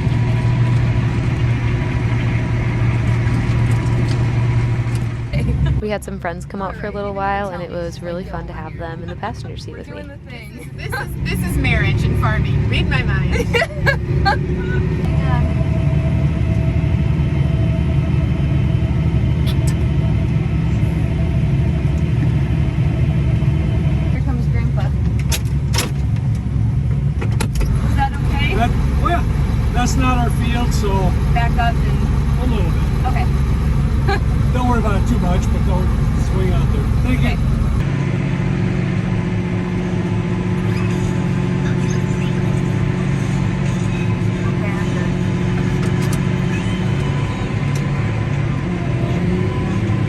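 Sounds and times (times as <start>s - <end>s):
tractor engine droning: 0.0s - 50.0s.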